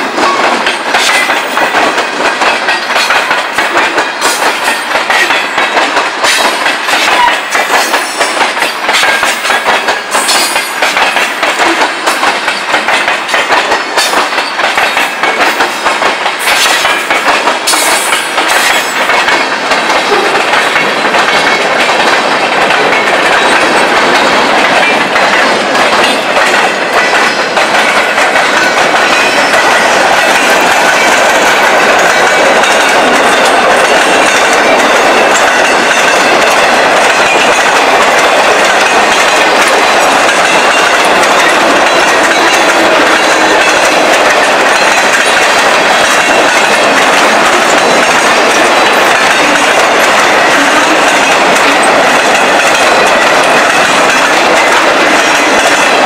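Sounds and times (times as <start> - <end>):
wheels clicking over rail joints: 0.0 - 56.0.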